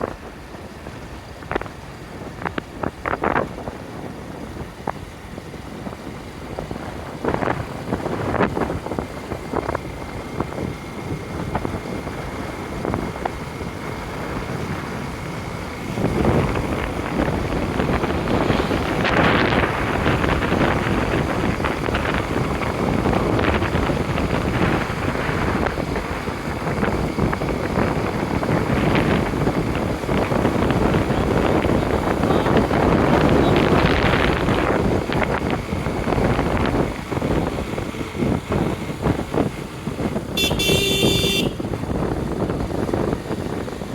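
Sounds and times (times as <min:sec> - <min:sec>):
motorcycle vehicle noise: 0:00.0 - 0:43.9
wind rushing over microphone: 0:00.0 - 0:43.9.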